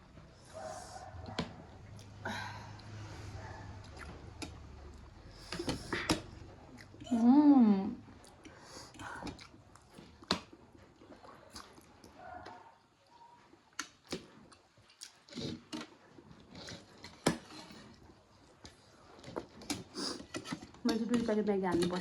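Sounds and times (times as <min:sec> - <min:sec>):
people eating noodles: 0:00.0 - 0:12.8, 0:13.4 - 0:22.0.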